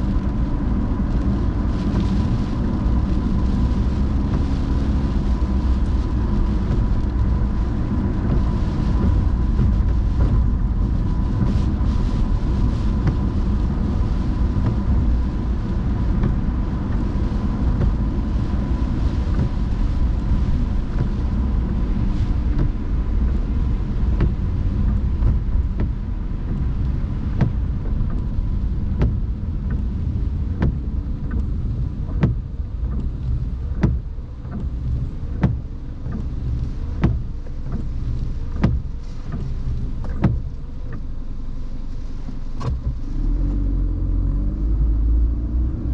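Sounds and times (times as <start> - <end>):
car tyres on wet road: 0.0 - 45.9.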